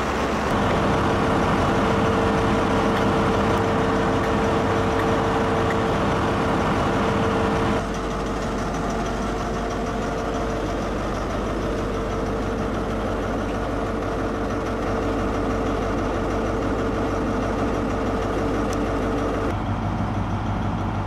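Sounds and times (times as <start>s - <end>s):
constant engine whine: 0.0s - 21.0s
diesel engine idling: 0.0s - 21.0s.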